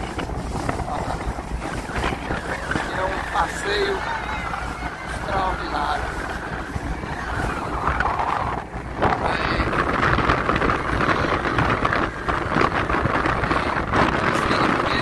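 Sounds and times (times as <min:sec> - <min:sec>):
speedboat engine rushing: 0:00.0 - 0:15.0
water rushing under boat: 0:00.0 - 0:15.0
wind buffeting microphone: 0:00.0 - 0:15.0.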